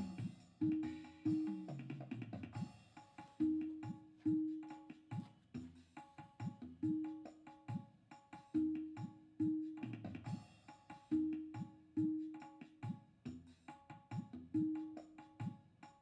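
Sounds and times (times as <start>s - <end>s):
hand drum music: 0.0s - 13.0s, 13.7s - 15.7s.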